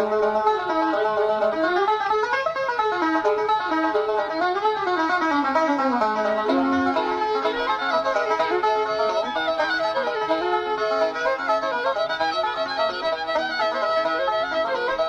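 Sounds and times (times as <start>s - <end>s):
fiddle playing a fast tune: 0.0s - 15.0s
string accompaniment: 0.0s - 15.0s.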